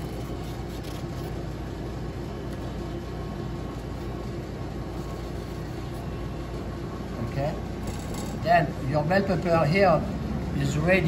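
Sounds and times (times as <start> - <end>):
background machinery hum: 0.0 - 11.0.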